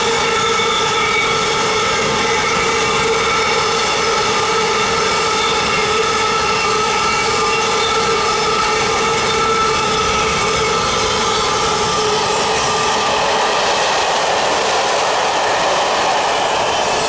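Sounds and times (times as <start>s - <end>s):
freight train rumbling past: 0.0s - 17.0s
high ringing of wheels on rails: 0.0s - 17.0s.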